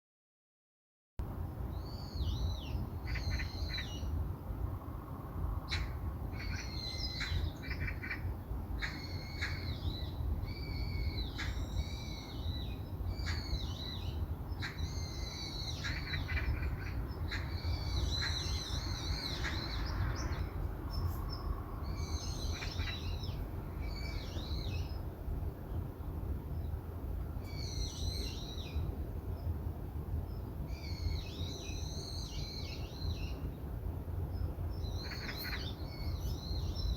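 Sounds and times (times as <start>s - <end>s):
birds chattering calls: 1.8s - 36.9s.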